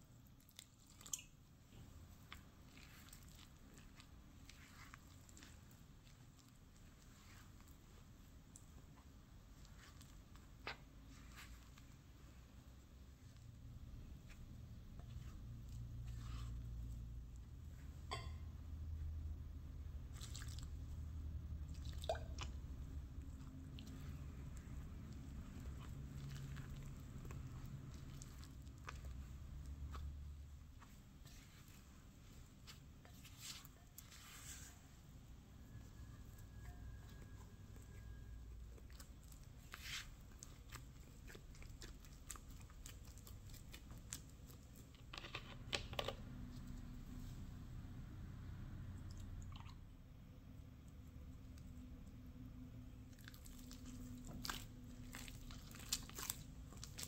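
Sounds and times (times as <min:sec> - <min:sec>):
spatula stirring dough in bowl: 0:00.0 - 0:47.6, 0:53.3 - 0:57.0.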